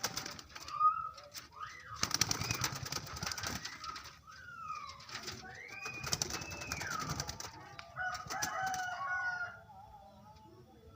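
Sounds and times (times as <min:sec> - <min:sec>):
doves calling: 0:00.0 - 0:10.9.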